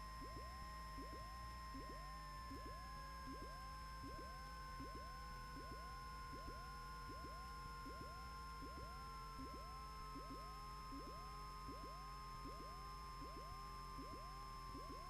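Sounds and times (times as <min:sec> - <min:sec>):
faint electrical whine and hum: 0:00.0 - 0:15.0.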